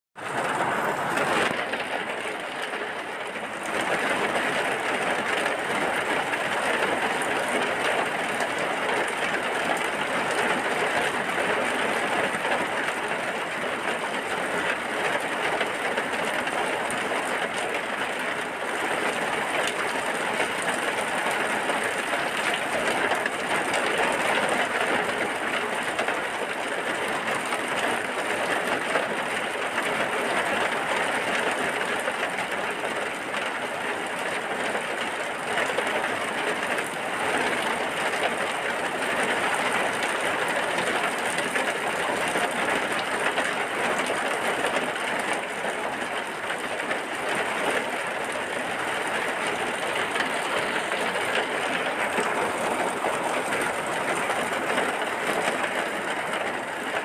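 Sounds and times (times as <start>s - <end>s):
heavy rain falling: 0.2s - 57.0s.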